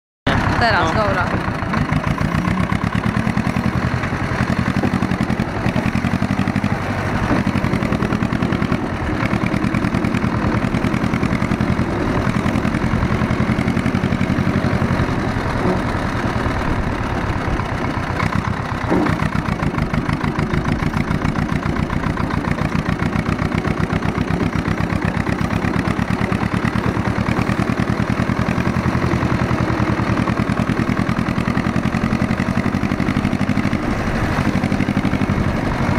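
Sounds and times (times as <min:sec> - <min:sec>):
tractor diesel engine running: 0:00.3 - 0:35.9.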